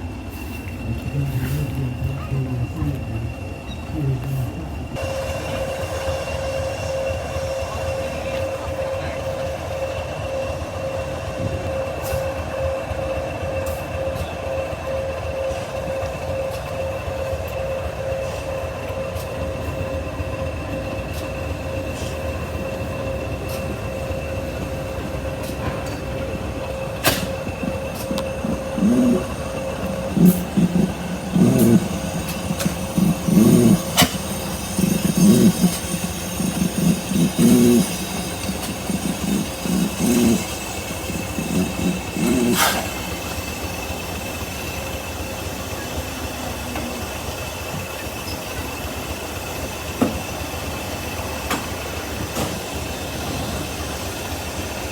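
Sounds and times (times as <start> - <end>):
train wheel squeal: 0.0 - 54.9
train whine: 0.0 - 54.9.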